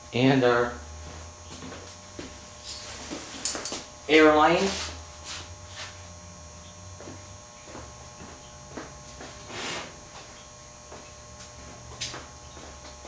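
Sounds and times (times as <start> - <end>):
generator electrical hum: 0.0 - 13.0.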